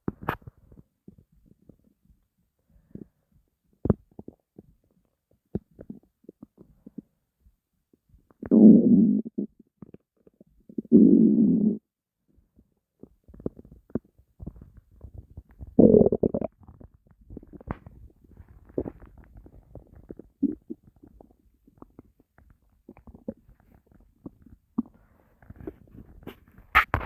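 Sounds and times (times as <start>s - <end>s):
stomach rumbling: 0.0s - 27.0s
stomach gurgling: 0.1s - 27.0s.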